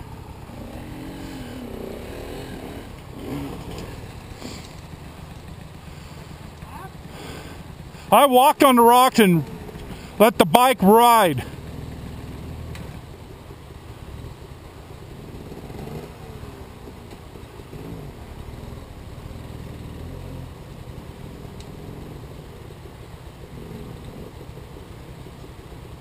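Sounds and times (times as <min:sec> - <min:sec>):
distant motorcycle engine: 0:00.0 - 0:25.2.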